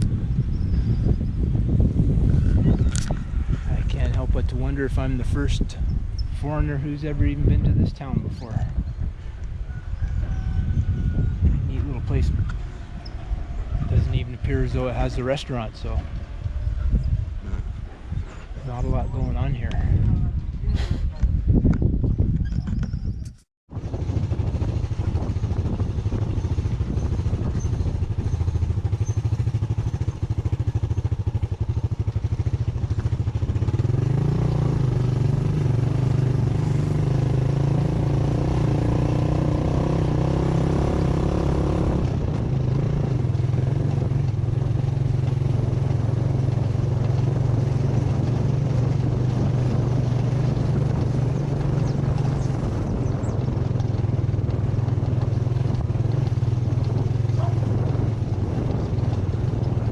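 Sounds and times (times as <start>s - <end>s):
motorcycle engine droning: 0.0s - 20.7s, 23.8s - 59.9s.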